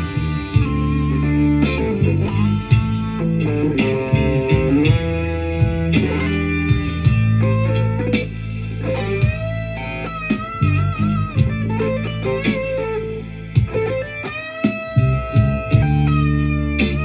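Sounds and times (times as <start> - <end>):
electric guitar blues lead: 0.0 - 17.0.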